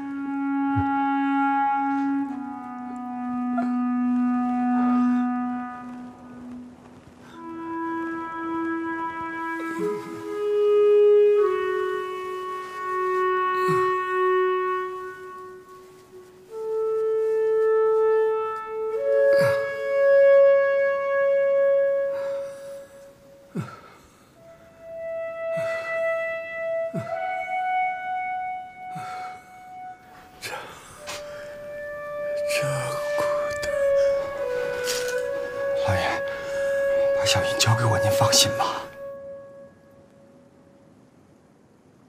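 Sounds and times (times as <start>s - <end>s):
slow wind instrument melody: 0.0s - 42.0s.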